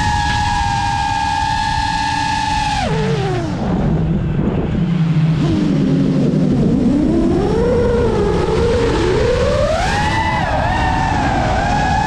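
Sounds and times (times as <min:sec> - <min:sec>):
quadcopter motors whining: 0:00.0 - 0:04.3, 0:05.3 - 0:12.0
wind rush: 0:00.0 - 0:12.0.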